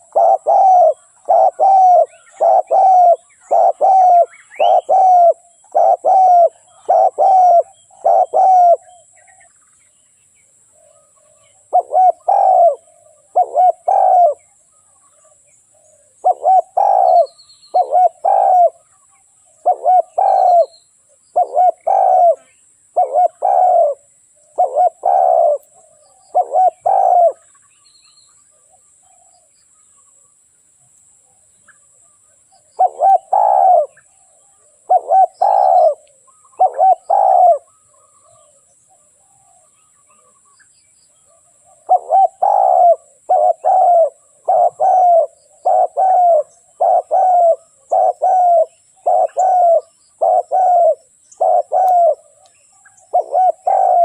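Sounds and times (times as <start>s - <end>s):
dove cooing: 0.0s - 9.4s, 10.8s - 14.6s, 15.2s - 27.5s, 32.5s - 40.4s, 41.2s - 52.4s, 53.0s - 54.0s.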